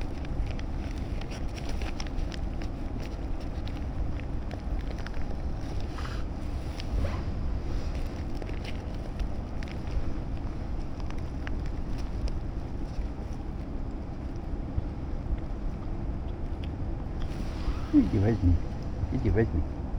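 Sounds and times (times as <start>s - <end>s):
small clicks and rustles: 0.0s - 6.9s, 7.7s - 17.4s.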